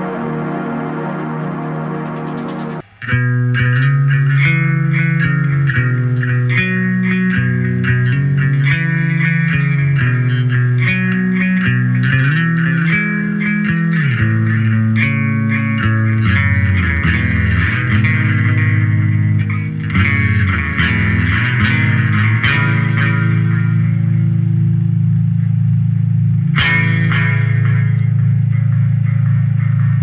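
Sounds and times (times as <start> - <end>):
electric guitar riff with echo: 0.0 - 30.0.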